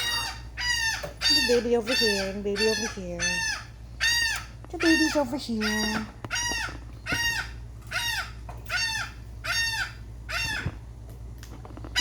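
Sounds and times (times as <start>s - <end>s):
seagull calling: 0.0s - 10.8s.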